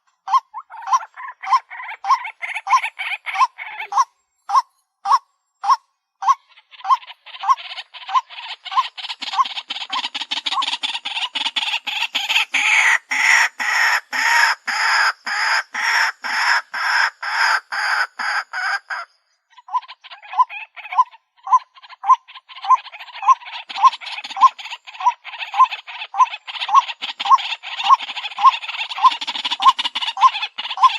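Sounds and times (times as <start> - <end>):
waterhen calling harsh notes: 0.3 - 30.9.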